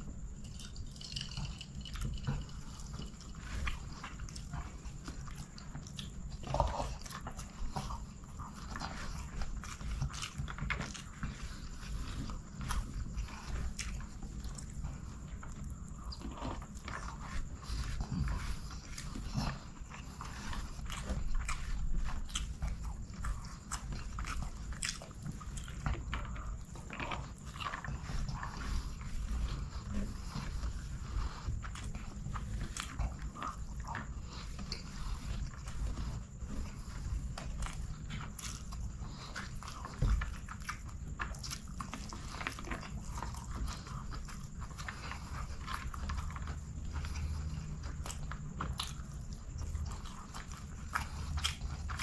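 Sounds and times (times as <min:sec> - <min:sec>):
wet chewing: 0:00.0 - 0:52.0.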